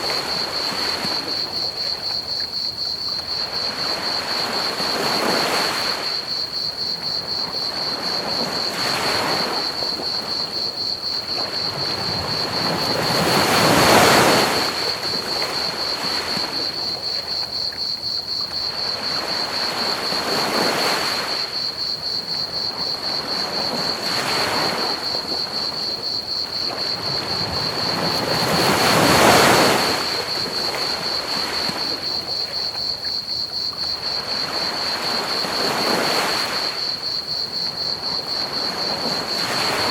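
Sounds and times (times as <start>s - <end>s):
crickets chirping: 0.0s - 39.9s
ocean waves on beach: 0.0s - 39.9s.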